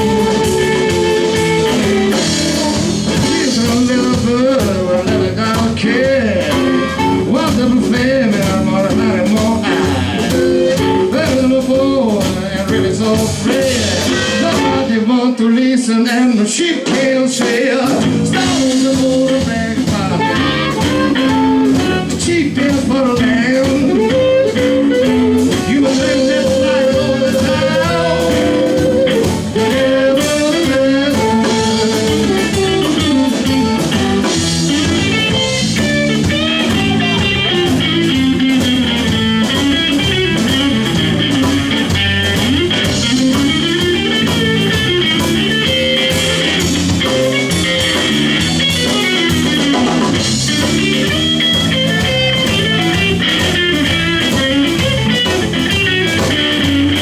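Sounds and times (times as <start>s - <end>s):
harmonica bending notes: 0.0s - 5.3s, 5.9s - 12.0s, 13.6s - 15.0s, 19.9s - 57.0s
blues band playing: 0.0s - 57.0s.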